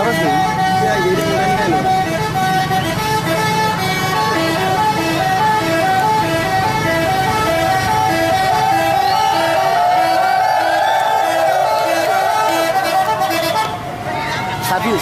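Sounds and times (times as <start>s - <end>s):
musical air horn tune: 0.0s - 13.8s
bus engine running: 0.0s - 15.0s.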